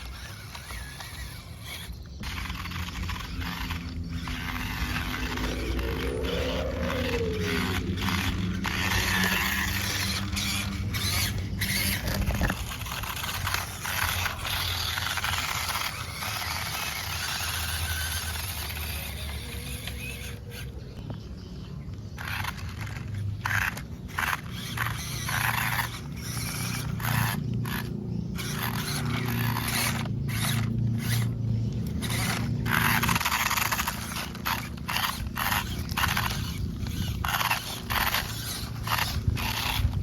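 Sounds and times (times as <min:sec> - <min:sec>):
scraping on terrain: 0:00.0 - 0:40.0
small electric motor whining: 0:00.0 - 0:40.0.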